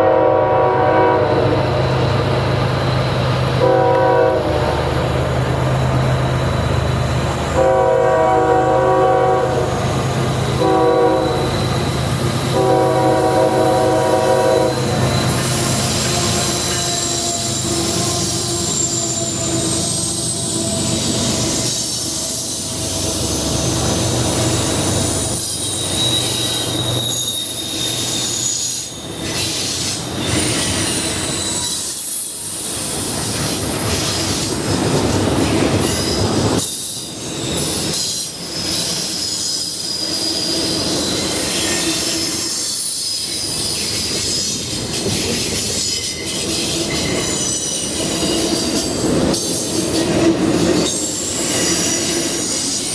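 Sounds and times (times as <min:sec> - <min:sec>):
freight train rumble: 0:00.0 - 0:52.9
train wheels squealing on rail: 0:00.0 - 0:52.9.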